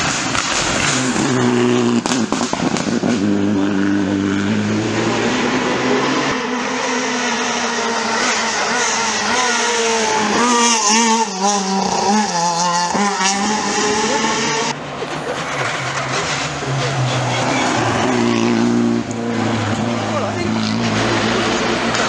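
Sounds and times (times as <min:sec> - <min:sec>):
distant car engine: 0:00.0 - 0:22.0
rally car engine at full throttle: 0:00.0 - 0:22.0.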